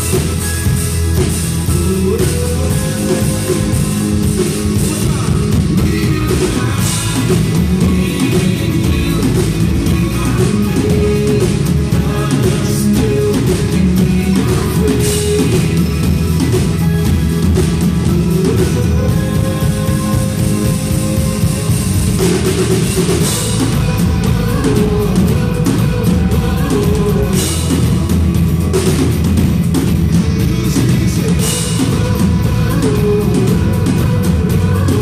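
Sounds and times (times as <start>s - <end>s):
drum kit: 0.0s - 35.0s
guitars: 0.0s - 35.0s.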